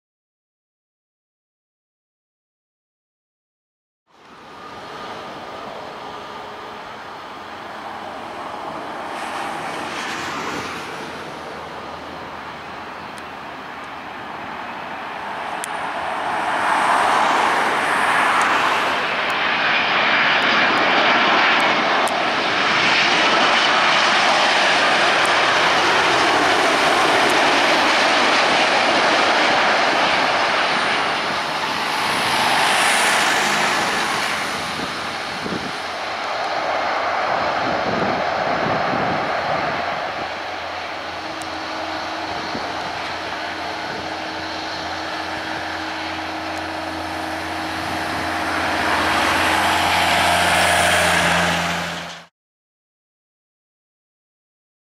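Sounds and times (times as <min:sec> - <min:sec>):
jet airliner rumble and hiss: 0:04.1 - 0:52.3.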